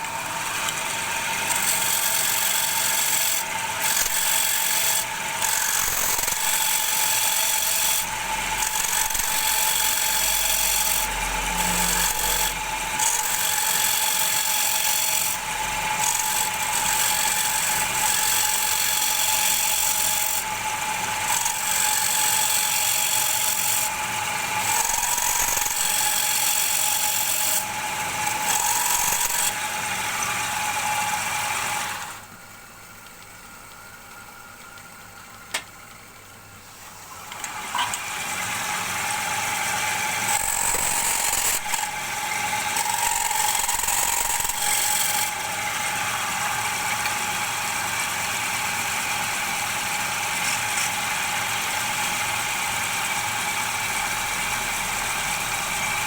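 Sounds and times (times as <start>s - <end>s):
lathe motor whine: 0.0s - 32.3s, 36.8s - 56.0s.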